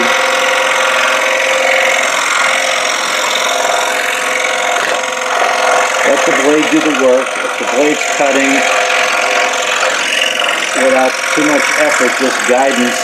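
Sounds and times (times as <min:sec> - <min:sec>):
scroll saw cutting wood: 0:00.0 - 0:13.0.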